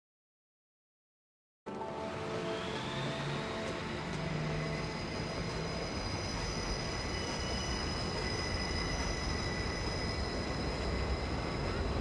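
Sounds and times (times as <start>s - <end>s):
city rumble: 1.7s - 12.0s.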